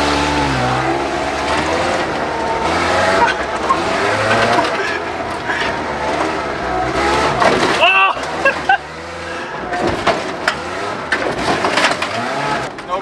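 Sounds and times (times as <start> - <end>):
pickup engine running in low gear: 0.0 - 13.0.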